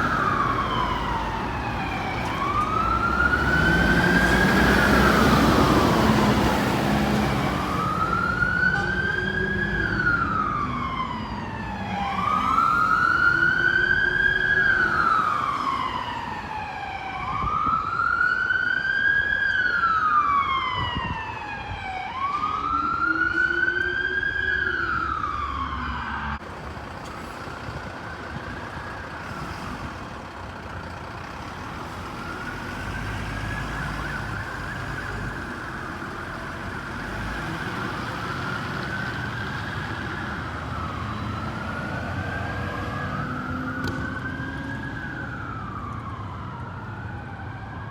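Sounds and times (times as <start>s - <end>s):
fire engine siren wailing: 0.0s - 47.9s
truck engine and road noise: 0.0s - 47.9s.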